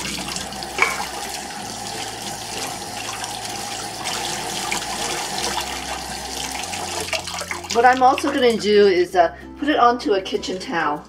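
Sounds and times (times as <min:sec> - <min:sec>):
kitchen tap running: 0:00.0 - 0:09.1.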